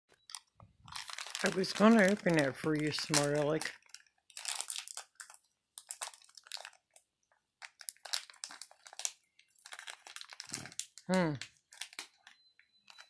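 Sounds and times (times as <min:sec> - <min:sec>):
plastic wrapper crinkling: 0:00.1 - 0:13.0.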